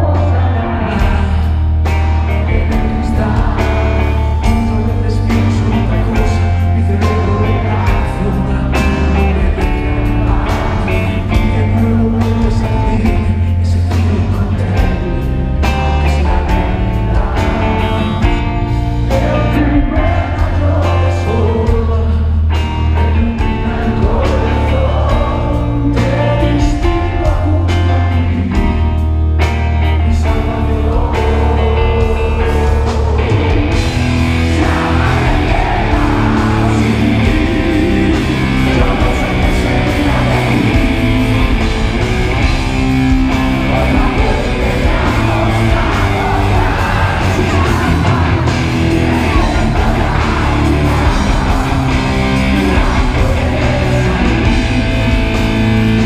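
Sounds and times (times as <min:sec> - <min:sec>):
heavy metal band playing: 0:00.0 - 0:56.0
man singing: 0:00.0 - 0:56.0.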